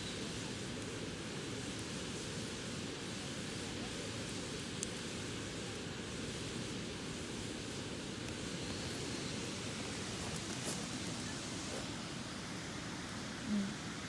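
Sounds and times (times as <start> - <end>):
bonfire crackling: 0.1 - 13.8.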